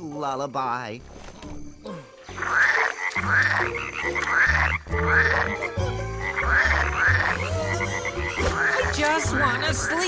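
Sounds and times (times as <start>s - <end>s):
deep frog croaks: 1.7s - 10.0s
higher frog calls: 1.7s - 10.0s.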